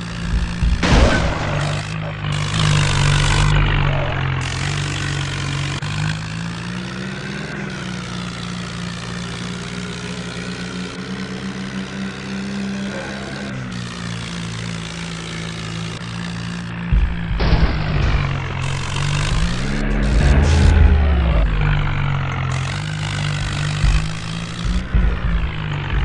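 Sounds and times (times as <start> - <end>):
tractor engine droning: 0.0 - 26.0.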